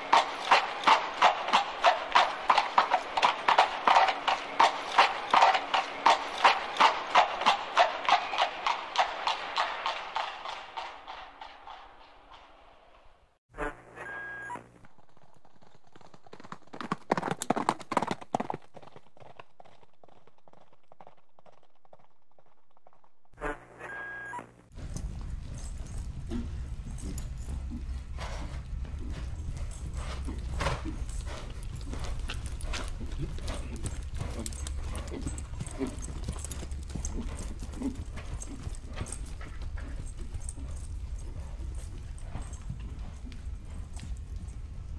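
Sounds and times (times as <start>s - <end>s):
horse hooves trotting: 0.0s - 13.4s, 14.8s - 23.4s, 24.7s - 44.9s.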